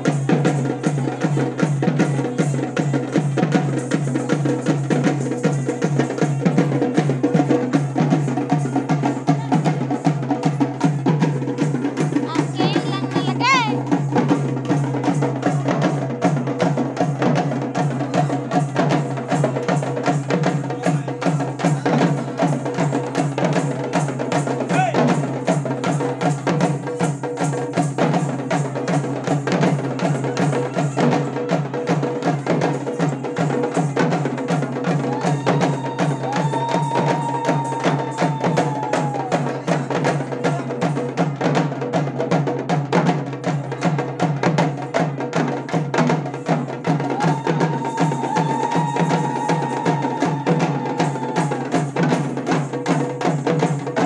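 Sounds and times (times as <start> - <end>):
barrel drums beaten in rhythm: 0.0 - 54.0.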